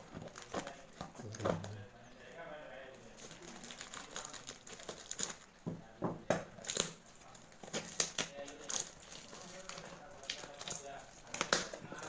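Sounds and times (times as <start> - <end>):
packaging crinkling and rustling: 0.0 - 5.6, 6.5 - 12.0.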